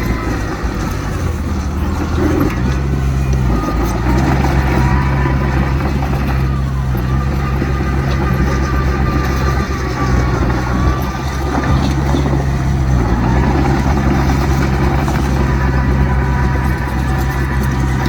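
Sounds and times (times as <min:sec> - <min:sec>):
diesel engine drone: 0:00.0 - 0:18.0.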